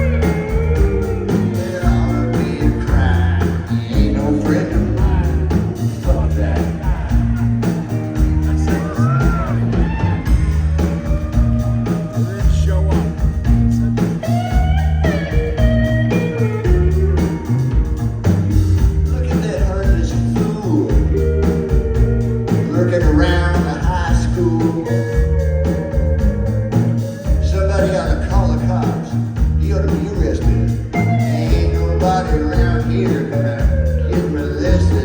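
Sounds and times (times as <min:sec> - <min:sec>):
blues rock band playing live: 0:00.0 - 0:35.0
electric guitar lines: 0:00.0 - 0:35.0
heavy bass: 0:00.0 - 0:35.0
steady drum beat: 0:00.0 - 0:35.0.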